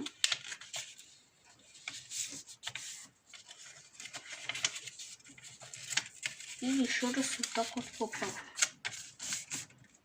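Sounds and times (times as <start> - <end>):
paper rustling and scraping: 0.0 - 10.0.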